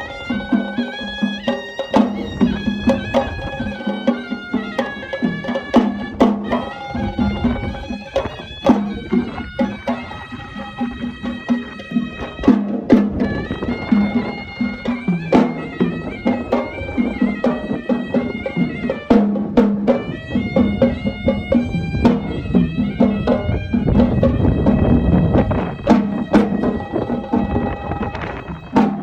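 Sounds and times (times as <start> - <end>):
sharp drum strokes: 0.0 - 29.0
shawm playing nasal melody: 0.0 - 29.0.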